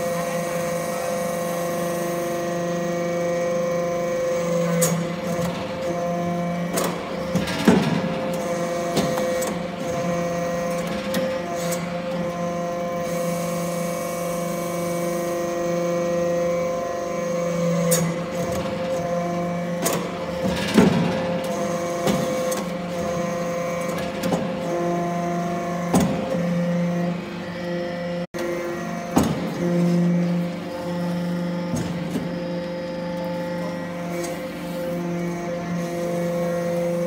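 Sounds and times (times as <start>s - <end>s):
hydraulic press humming: 0.0s - 37.0s.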